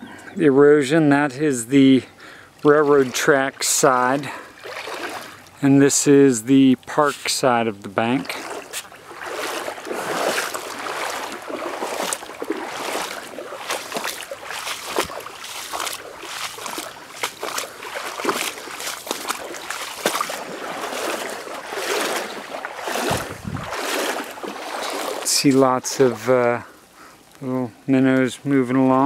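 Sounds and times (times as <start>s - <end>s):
footsteps wading through water: 1.8s - 27.4s.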